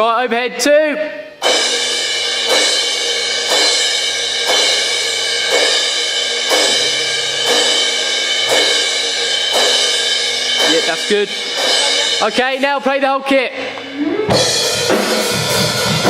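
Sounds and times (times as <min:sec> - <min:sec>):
cymbal struck and ringing: 0:01.4 - 0:16.0.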